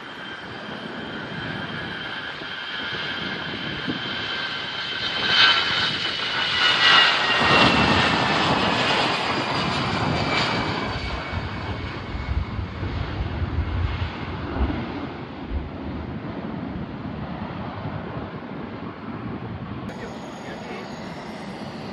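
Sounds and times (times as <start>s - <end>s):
airliner engines whining: 0.0s - 21.9s.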